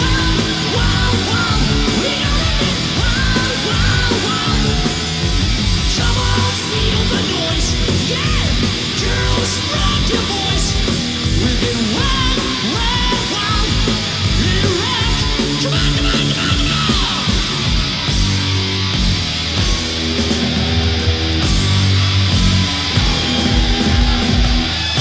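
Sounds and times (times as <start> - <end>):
heavy metal band playing live: 0.0 - 25.0
yelled vocals: 0.0 - 25.0.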